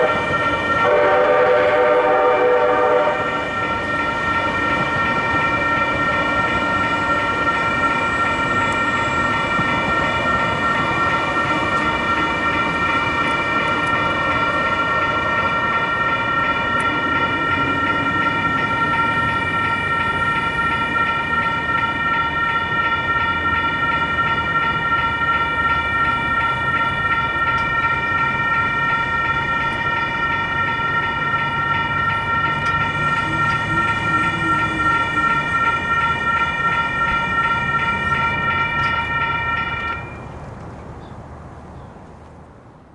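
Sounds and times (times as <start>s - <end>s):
railroad crossing bell ringing: 0.0s - 40.5s
light rail train rumbling: 0.0s - 42.9s.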